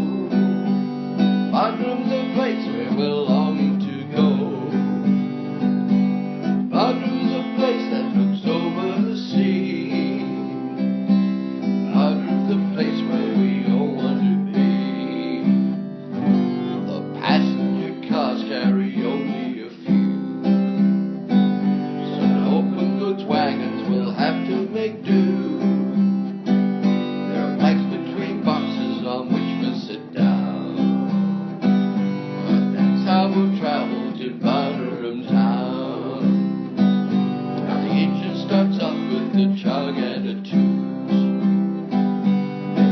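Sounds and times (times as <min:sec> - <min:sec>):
acoustic guitar strumming chords: 0:00.0 - 0:42.9.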